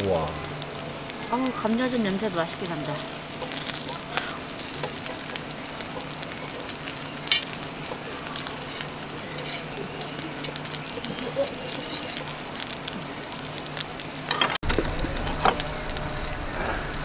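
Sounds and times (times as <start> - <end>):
pancake sizzling in oil: 0.0 - 17.0.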